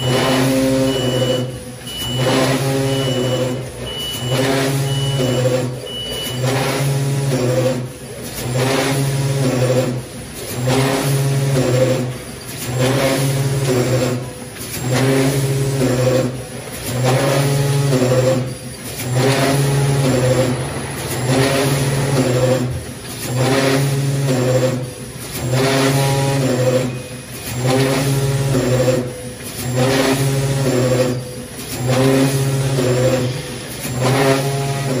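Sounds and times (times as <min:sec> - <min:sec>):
filling machine humming: 0:00.0 - 0:35.0.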